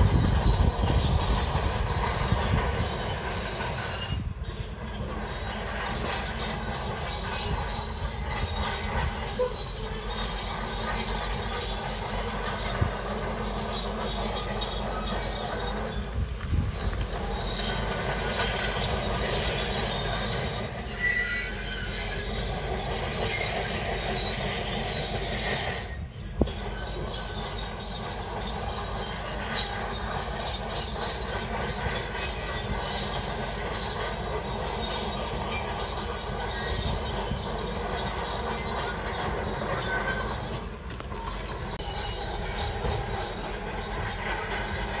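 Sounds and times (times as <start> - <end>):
bulldozer tracks squealing and clanking: 0.0 - 45.0.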